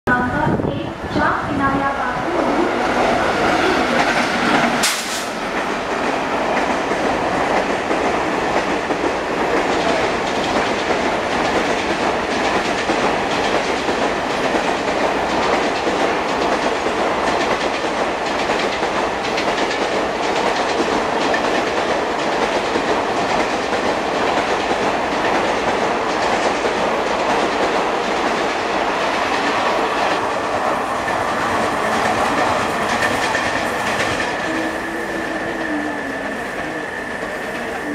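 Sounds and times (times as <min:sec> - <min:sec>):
train wheels clattering: 0:03.2 - 0:37.9.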